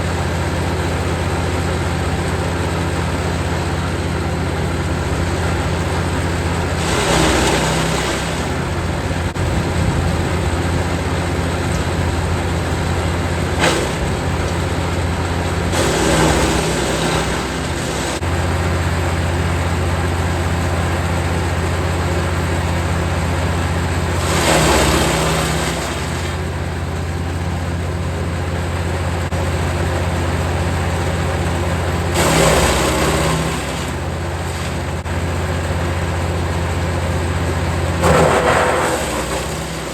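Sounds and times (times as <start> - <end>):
wood chipper engine running: 0.0 - 39.9
branches crunching in chipper: 4.0 - 39.9.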